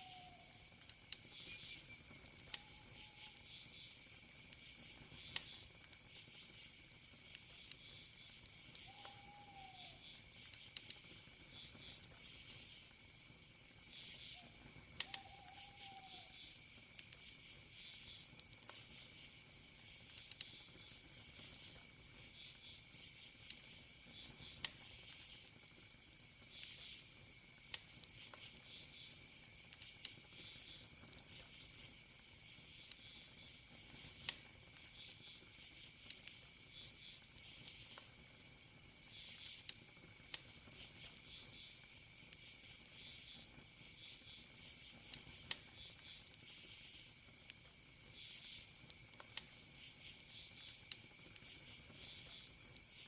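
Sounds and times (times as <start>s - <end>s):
campfire crackling: 0.0s - 53.0s
crickets trilling: 0.0s - 53.0s
insects chirping: 0.0s - 53.0s
wood popping in fire: 0.0s - 53.0s.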